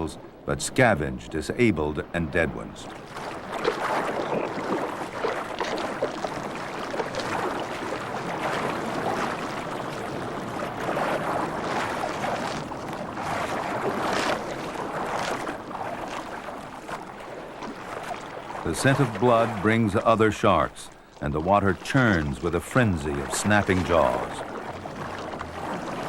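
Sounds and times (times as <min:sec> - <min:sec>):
sea water splashing and sloshing: 0:00.0 - 0:26.0.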